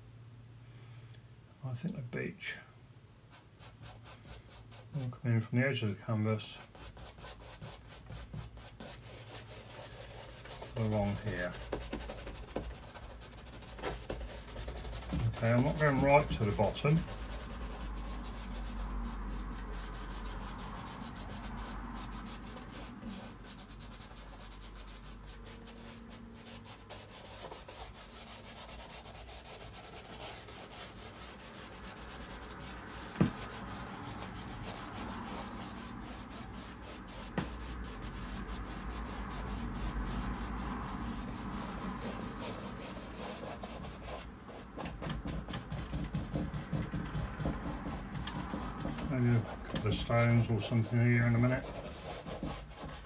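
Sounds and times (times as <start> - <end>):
paintbrush rubbing on canvas: 6.4 - 53.0.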